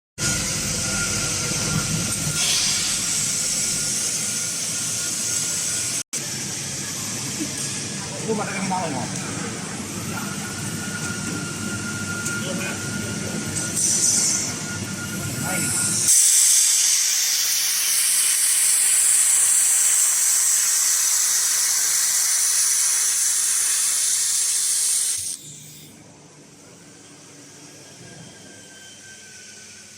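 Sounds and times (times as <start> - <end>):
laser welding machine hissing: 0.2 - 11.7, 12.3 - 25.9.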